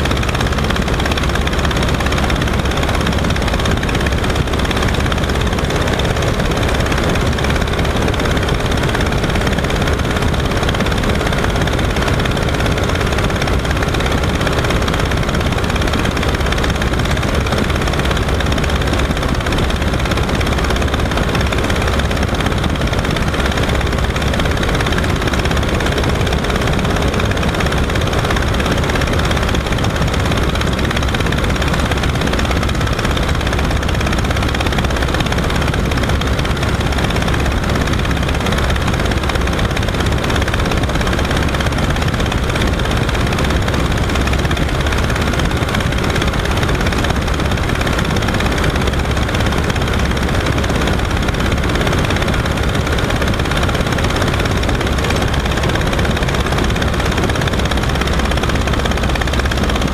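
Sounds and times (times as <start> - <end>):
radial engine and propeller running: 0.0 - 59.9.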